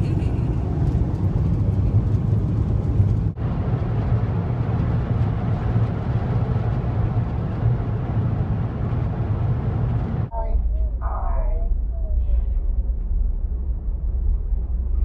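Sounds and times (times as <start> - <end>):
road and engine noise: 0.0 - 15.0.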